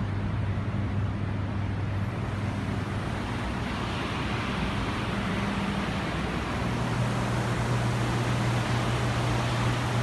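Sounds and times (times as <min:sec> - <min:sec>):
exhaust fans humming: 0:00.0 - 0:10.0.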